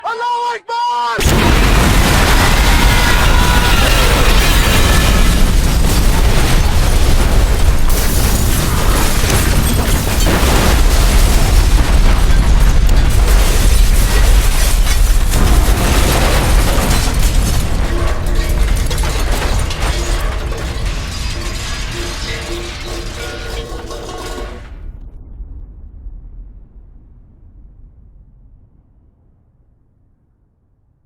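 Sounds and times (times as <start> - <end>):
explosion rumble with crackle: 1.2 - 30.1.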